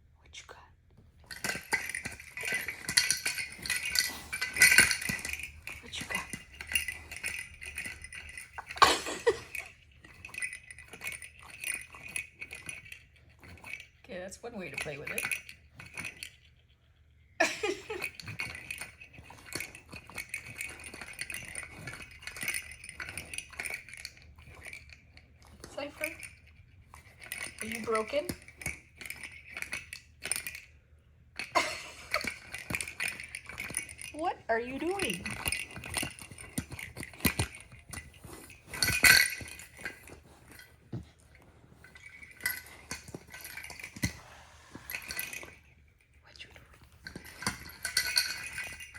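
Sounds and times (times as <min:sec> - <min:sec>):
jingling cat toy rattling: 0:01.1 - 0:48.9.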